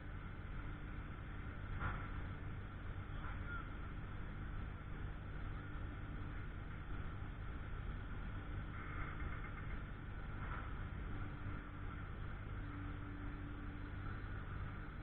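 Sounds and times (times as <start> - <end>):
engine idling rumble: 0.0 - 15.0.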